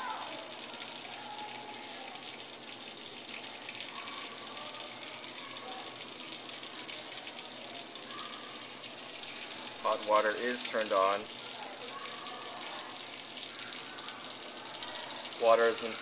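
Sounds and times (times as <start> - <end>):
water running from faucet: 0.0 - 16.0.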